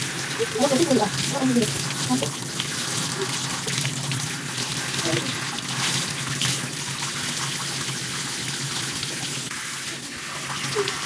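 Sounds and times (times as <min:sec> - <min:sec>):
shower spray splashing: 0:00.0 - 0:11.0.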